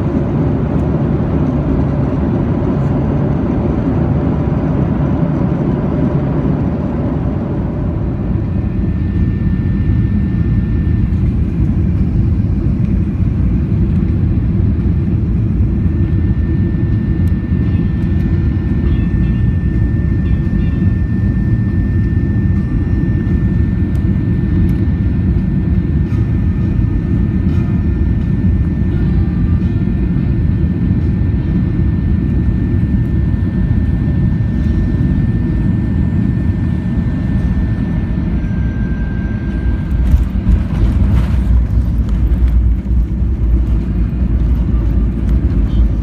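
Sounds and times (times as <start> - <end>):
jet engine and airflow rumble: 0.0 - 46.0
thin steady whine: 0.0 - 46.0.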